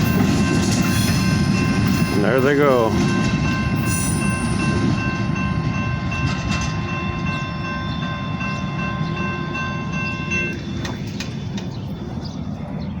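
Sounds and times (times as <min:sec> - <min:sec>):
high ringing tone: 0:00.0 - 0:10.8
train wheels rumbling on rail: 0:00.0 - 0:13.0.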